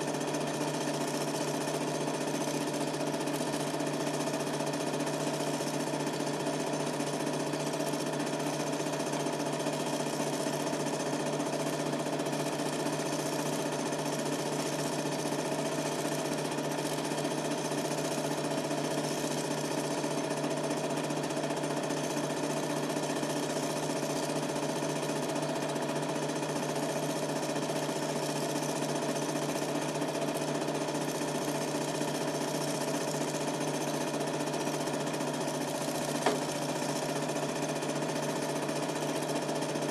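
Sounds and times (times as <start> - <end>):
film projector humming and whirring: 0.0 - 39.9.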